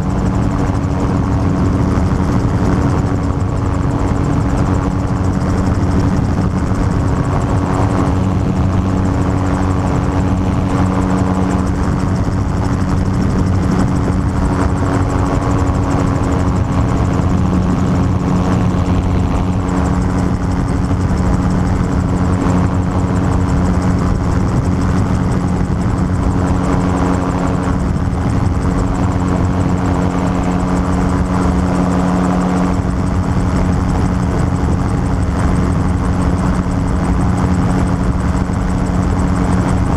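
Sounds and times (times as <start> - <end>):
engine and propeller drone: 0.0 - 39.9
wind noise: 0.0 - 39.9.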